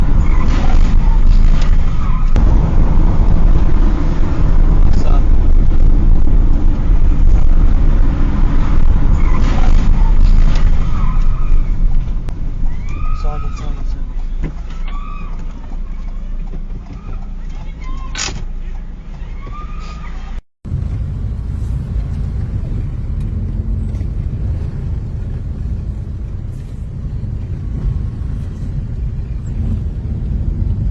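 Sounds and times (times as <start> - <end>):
low rumble of road vehicles: 0.0 - 30.9.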